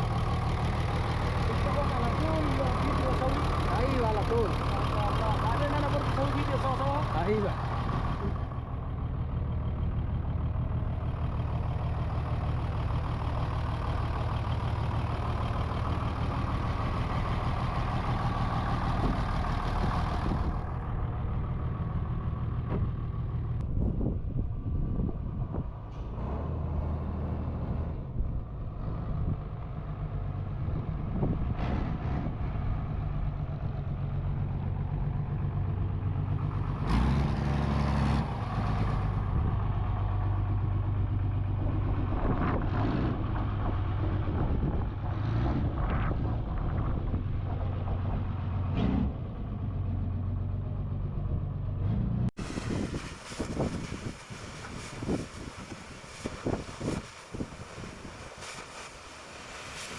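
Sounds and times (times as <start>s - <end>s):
truck engine idling: 0.0s - 45.3s, 46.0s - 59.9s.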